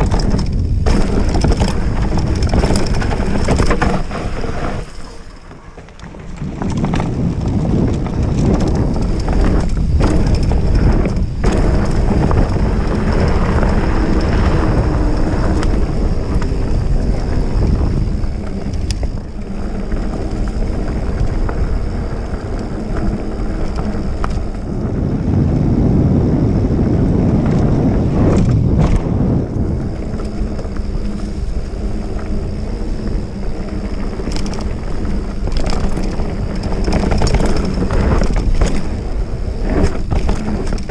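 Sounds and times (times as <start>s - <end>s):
bike knocking and rattling: 0.0s - 40.9s
tyres rumbling on dirt: 0.0s - 40.9s
wind rushing over microphone: 0.0s - 40.9s.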